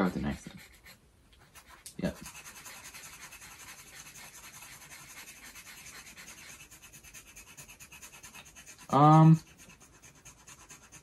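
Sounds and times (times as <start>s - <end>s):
knife scraping scratch card: 0.0s - 11.0s.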